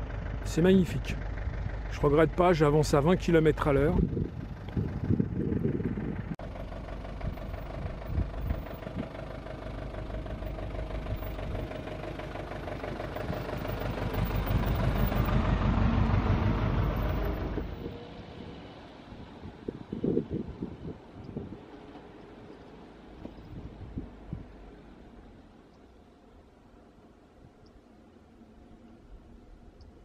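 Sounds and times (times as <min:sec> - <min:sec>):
motorhome engine whine: 0:00.0 - 0:30.0.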